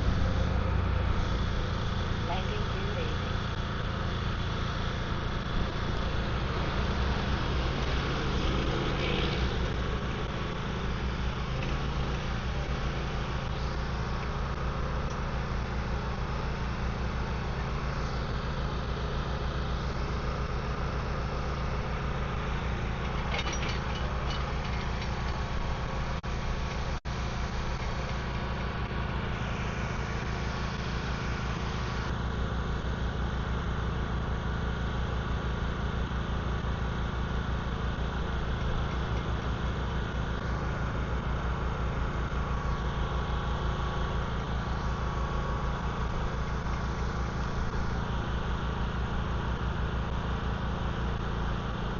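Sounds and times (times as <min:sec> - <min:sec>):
engine idling: 0:00.0 - 0:51.9.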